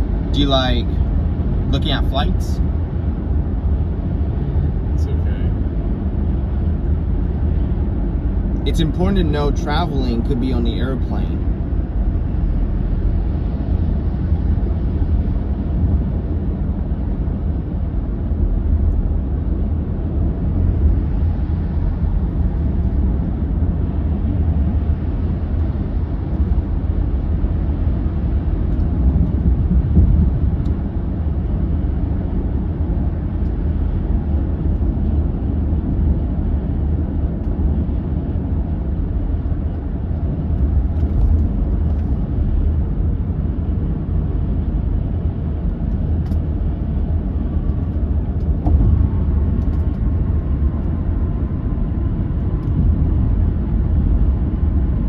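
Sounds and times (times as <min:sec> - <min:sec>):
car interior road rumble: 0:00.0 - 0:55.0.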